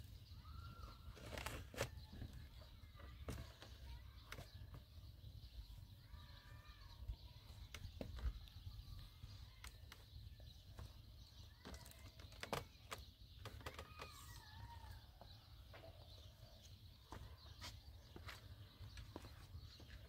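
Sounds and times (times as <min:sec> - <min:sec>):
bird calls: 0:00.0 - 0:20.0.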